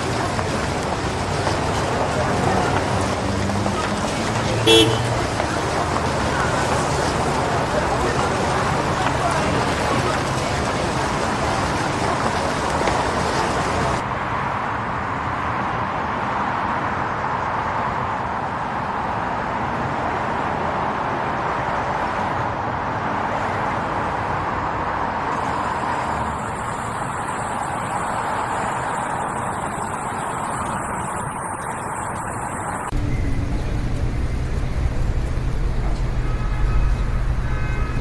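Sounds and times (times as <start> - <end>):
traffic noise: 0.0 - 38.0.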